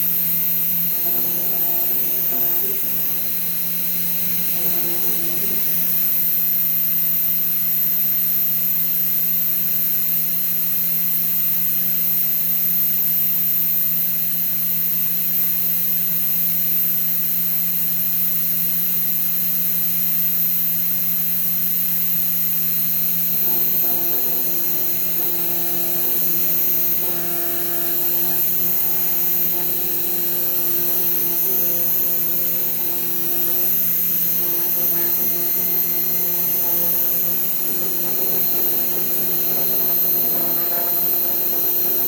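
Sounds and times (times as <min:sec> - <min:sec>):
cnc router running: 0:00.0 - 0:42.0.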